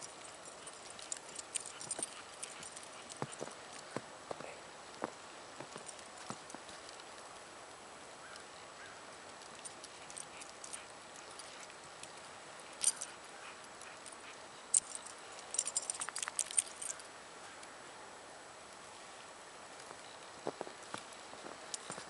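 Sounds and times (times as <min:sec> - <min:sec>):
leash clicks and jingles: 0:00.0 - 0:07.4, 0:09.1 - 0:17.6, 0:19.6 - 0:22.0
steady hiss: 0:00.0 - 0:22.0.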